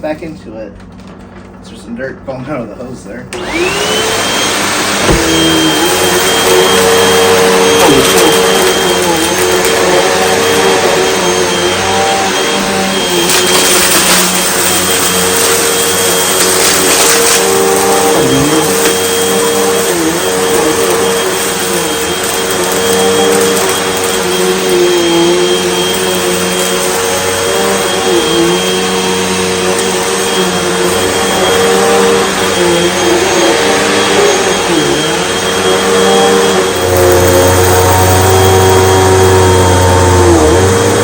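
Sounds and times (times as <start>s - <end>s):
vacuum cleaner motor whine: 3.1s - 41.0s
vacuum cleaner hiss: 3.3s - 41.0s.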